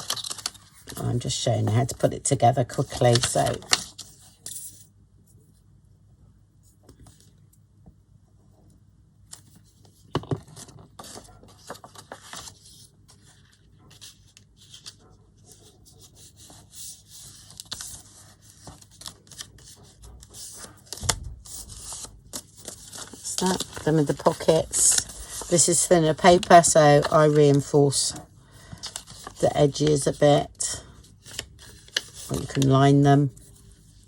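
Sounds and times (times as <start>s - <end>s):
paper rustling and crinkling: 0.0s - 2.0s, 2.7s - 4.4s, 9.4s - 34.0s.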